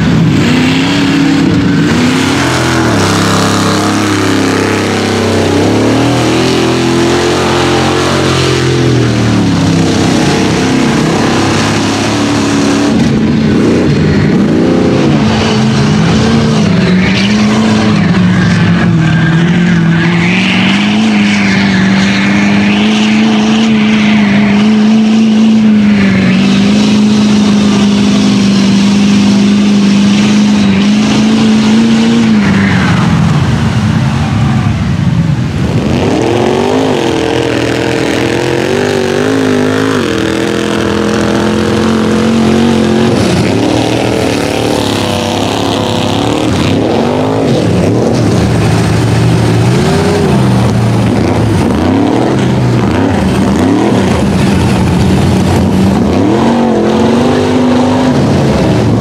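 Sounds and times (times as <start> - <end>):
truck engines revving hard: 0.0 - 59.0.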